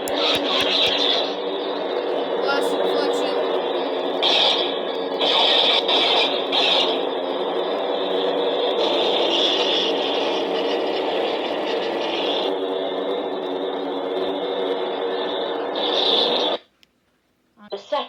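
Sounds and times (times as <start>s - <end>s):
toy lightsaber humming: 0.0s - 16.6s.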